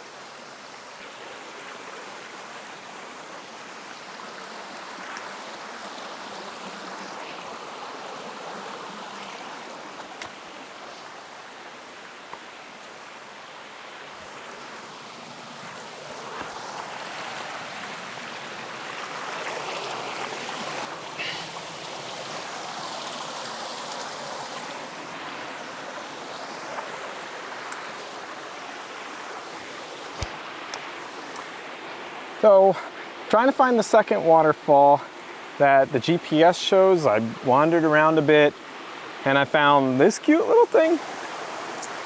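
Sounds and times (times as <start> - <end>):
creek water rushing: 0.0 - 42.0.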